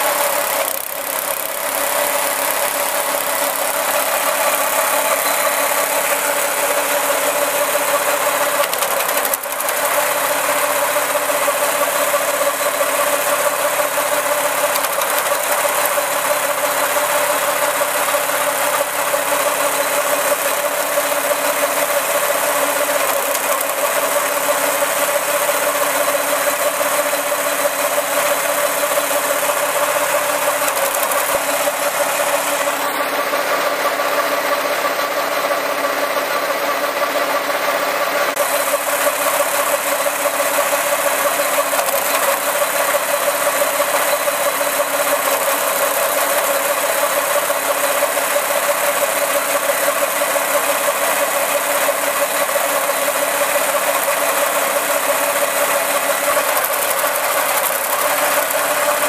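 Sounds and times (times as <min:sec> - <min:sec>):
petrol engine running: 0:00.0 - 0:59.0.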